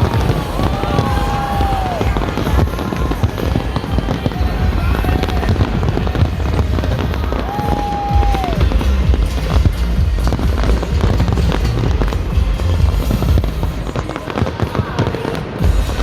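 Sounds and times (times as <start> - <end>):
fireworks bangs and crackles: 0.0 - 16.0
music: 0.0 - 16.0.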